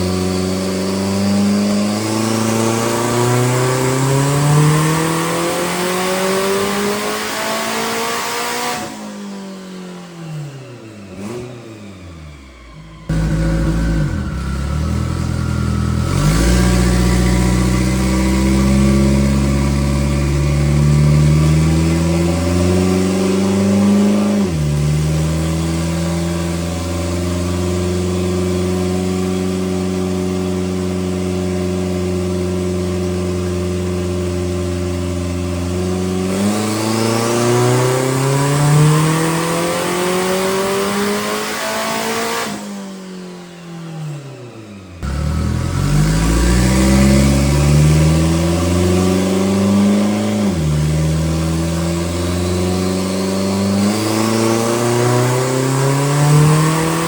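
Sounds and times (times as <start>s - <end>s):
race car engine revving: 0.0s - 9.1s, 10.4s - 42.7s, 45.0s - 57.0s.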